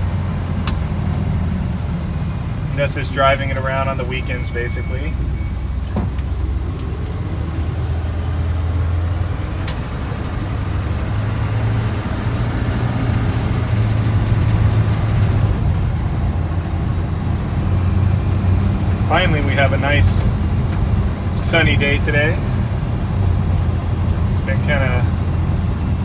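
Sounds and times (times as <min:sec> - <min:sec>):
road noise: 0:00.0 - 0:26.0
truck engine running: 0:00.0 - 0:26.0.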